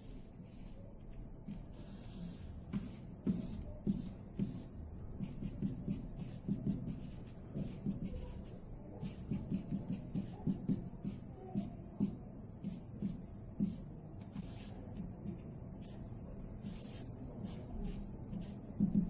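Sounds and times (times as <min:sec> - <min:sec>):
marker scratching on paper: 0:00.0 - 0:19.0.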